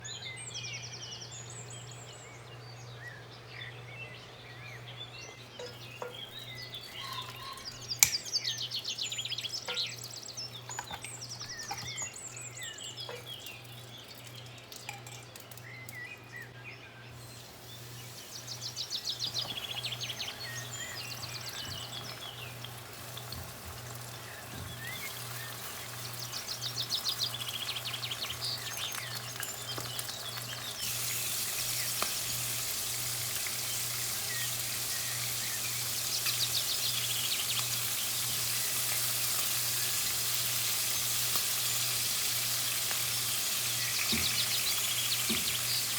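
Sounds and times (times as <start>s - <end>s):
small birds chirping and trilling: 0.0s - 45.9s.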